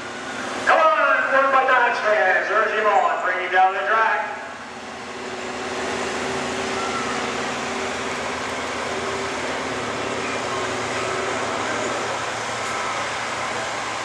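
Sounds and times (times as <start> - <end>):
truck engine at high revs: 0.0 - 14.0.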